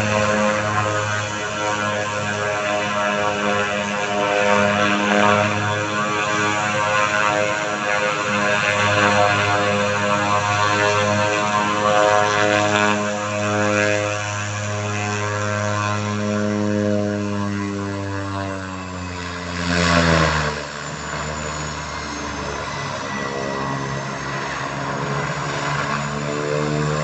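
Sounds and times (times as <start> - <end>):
high turbine whine: 0.0 - 27.0
turboprop plane engine drone: 0.0 - 27.0.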